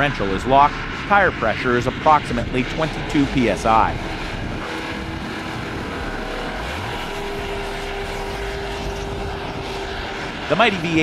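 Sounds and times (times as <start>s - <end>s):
engine droning under load: 0.0s - 11.0s.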